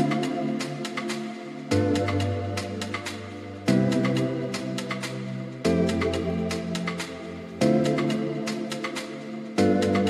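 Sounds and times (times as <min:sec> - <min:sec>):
light ticking beat: 0:00.0 - 0:10.0.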